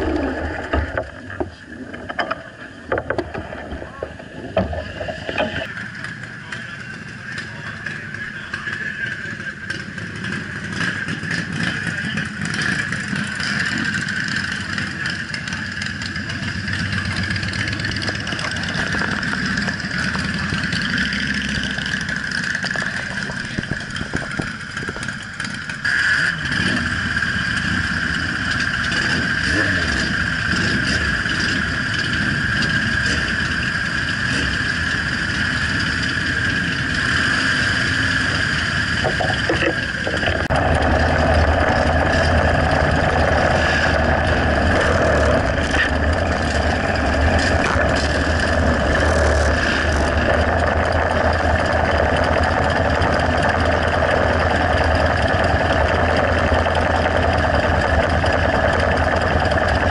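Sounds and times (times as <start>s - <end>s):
motorcycle engines: 0.0s - 59.9s.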